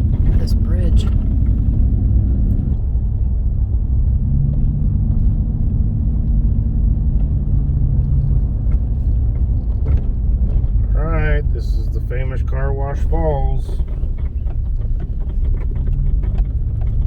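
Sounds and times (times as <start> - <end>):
vehicle engine and tyres rumbling: 0.0 - 17.0.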